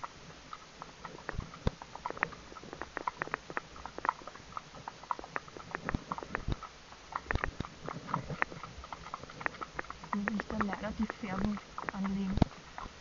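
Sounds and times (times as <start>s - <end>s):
horse hooves on pavement: 0.0s - 13.0s.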